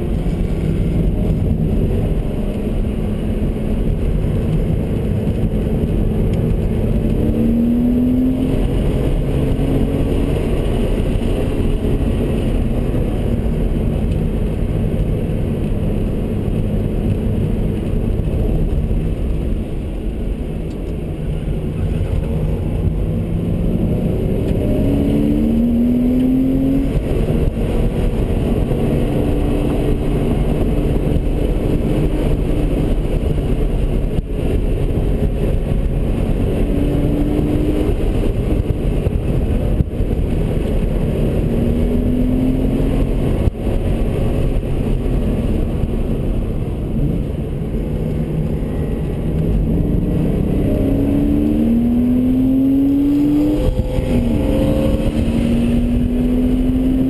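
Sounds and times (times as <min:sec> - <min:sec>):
car engine accelerating through gears: 0:00.0 - 0:57.0
wind and tyre noise: 0:00.0 - 0:57.0.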